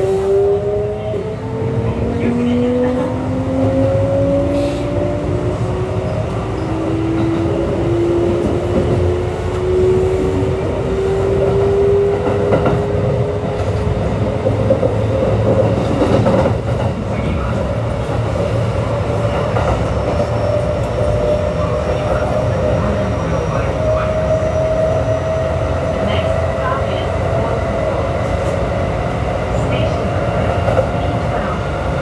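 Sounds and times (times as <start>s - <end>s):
train motor and wheel noise: 0.0s - 32.0s.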